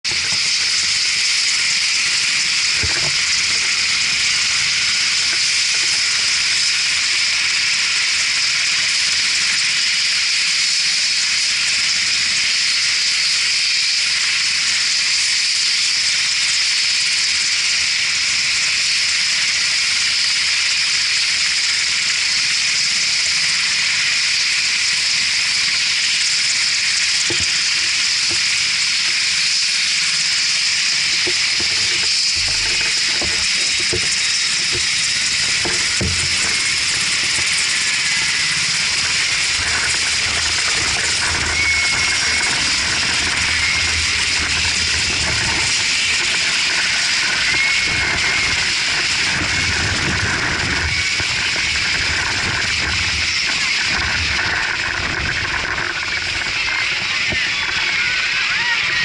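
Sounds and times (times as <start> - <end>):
helicopter engines high-pitched hiss: 0.0 - 59.0.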